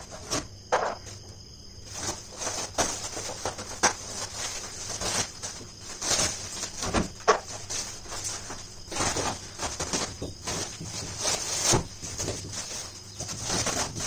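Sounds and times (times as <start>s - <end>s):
plastic sheet crinkling: 1.8s - 14.0s.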